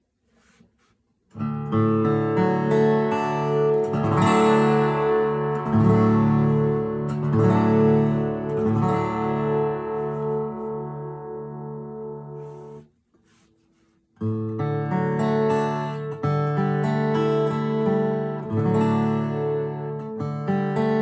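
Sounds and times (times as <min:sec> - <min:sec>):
acoustic guitar chords: 0:01.4 - 0:12.9, 0:14.2 - 0:21.0.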